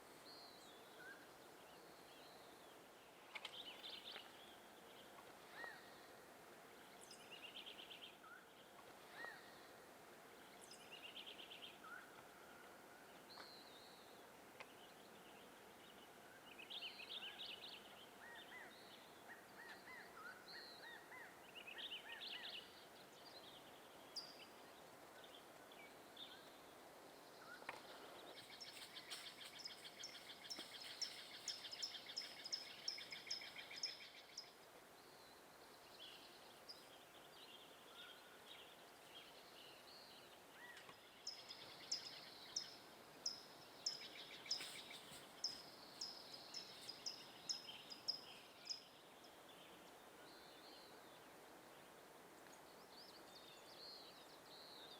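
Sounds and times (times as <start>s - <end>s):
birds chirping: 10.4s - 54.9s.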